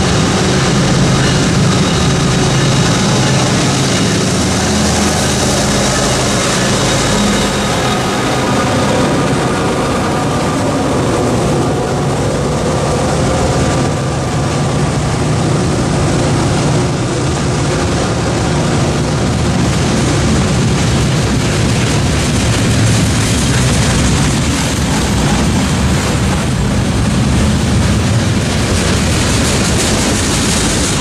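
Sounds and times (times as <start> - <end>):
locomotive diesel engine: 0.0 - 31.0
train wheels rumbling on rails: 0.0 - 31.0.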